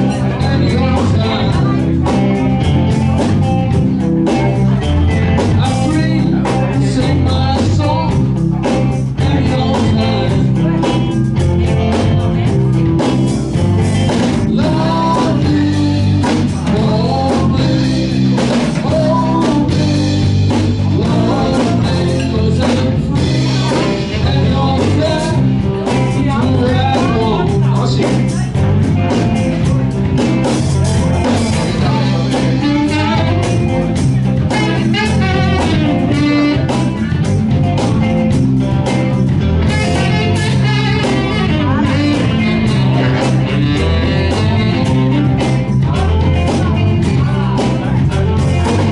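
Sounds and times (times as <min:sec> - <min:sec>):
man singing: 0:00.0 - 0:38.0, 0:38.8 - 0:48.9
live blues band: 0:00.0 - 0:48.9.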